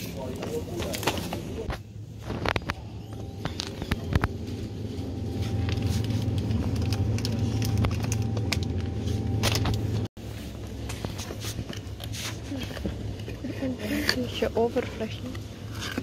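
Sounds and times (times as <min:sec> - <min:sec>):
refrigerated display case hum: 0:00.0 - 0:16.0.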